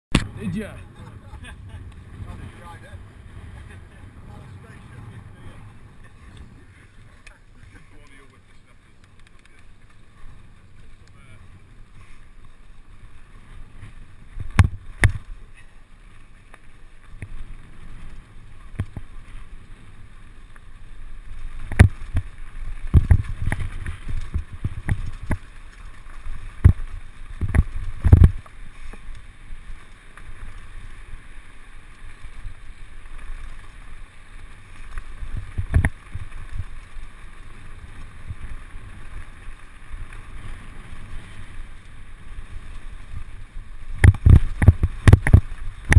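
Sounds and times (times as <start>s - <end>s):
wind: 0.1s - 45.9s.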